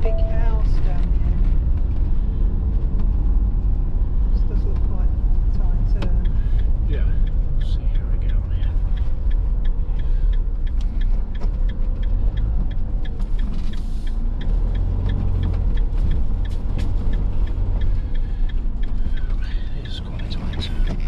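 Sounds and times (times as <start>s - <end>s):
engine and road rumble: 0.0s - 21.0s
turn indicator ticking: 0.0s - 21.0s.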